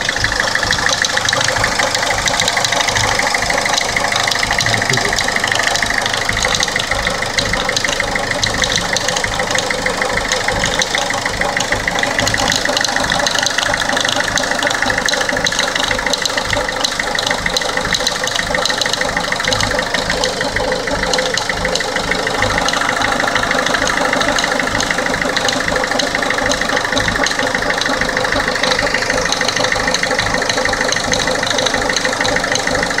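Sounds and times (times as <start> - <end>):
diesel engine idling: 0.0 - 33.0
fast even ticking: 0.0 - 33.0.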